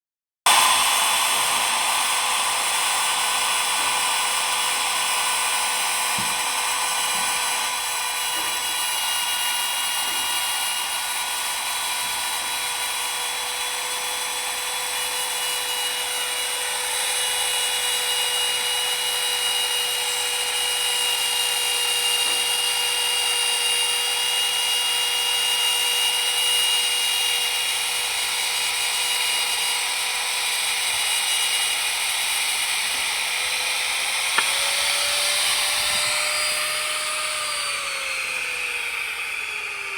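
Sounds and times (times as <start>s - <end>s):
rotary tool high whine: 0.5s - 39.9s.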